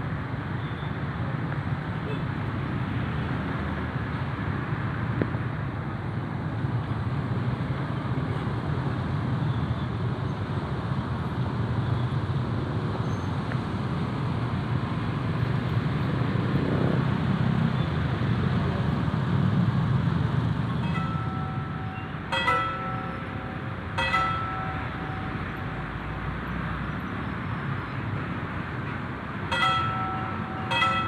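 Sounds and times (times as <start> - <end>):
road traffic passing: 0.0 - 31.0.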